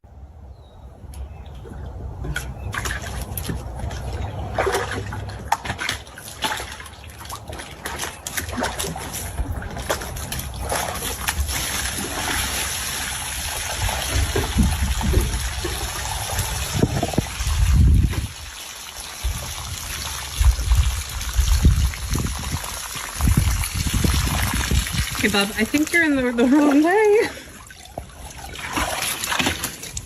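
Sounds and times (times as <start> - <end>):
water splashing and trickling: 0.8 - 30.0
small clicks and splashes: 1.1 - 30.0.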